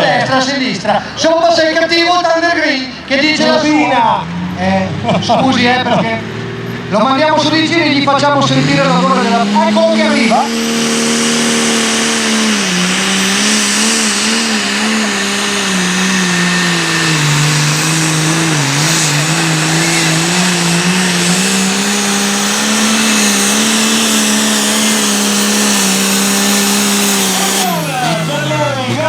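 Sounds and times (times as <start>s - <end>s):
tractor engine at full throttle: 0.0s - 29.0s.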